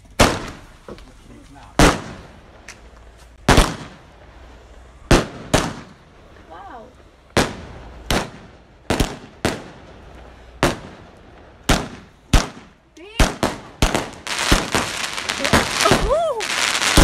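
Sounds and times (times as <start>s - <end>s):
fireworks bangs and crackle: 0.0s - 17.0s.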